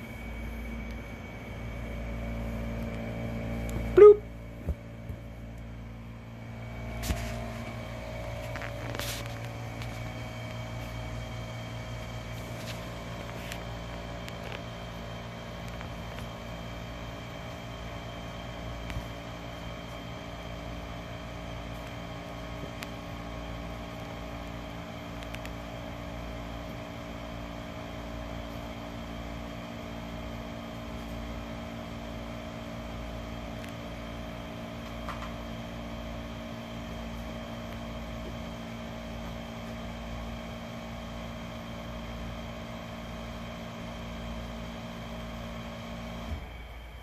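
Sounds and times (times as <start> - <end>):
machine humming: 0.0 - 47.0.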